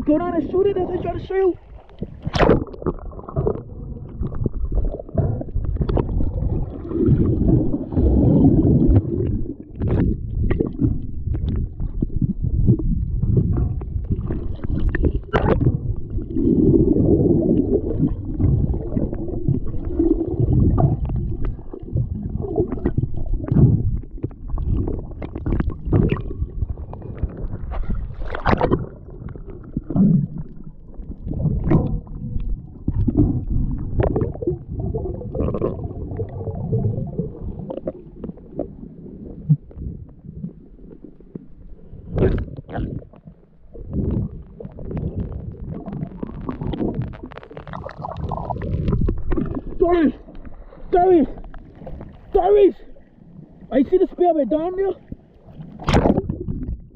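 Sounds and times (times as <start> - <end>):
underwater rumbling and gurgling: 0.0 - 56.9.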